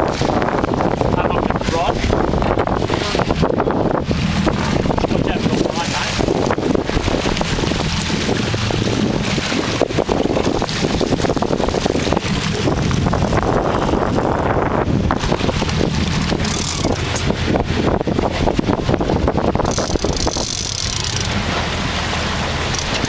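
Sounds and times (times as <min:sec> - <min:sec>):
boat engine droning: 0:00.0 - 0:23.0
wind buffeting microphone: 0:00.0 - 0:23.0.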